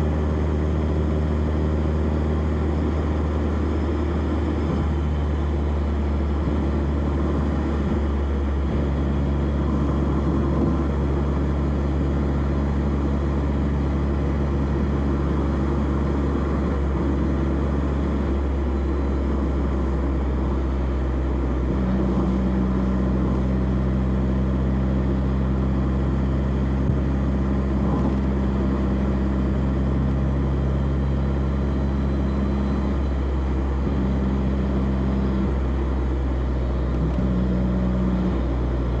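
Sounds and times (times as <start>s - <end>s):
car engine exhaust: 0.0s - 39.0s
tyre and road noise: 0.0s - 39.0s.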